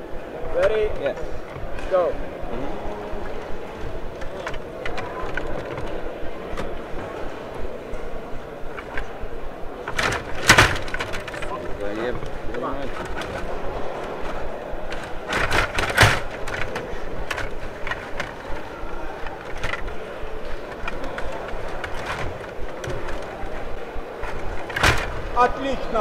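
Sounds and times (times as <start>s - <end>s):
plastic players knocking puck: 3.2s - 7.8s, 8.4s - 26.0s
rods rattling in slots: 3.2s - 26.0s.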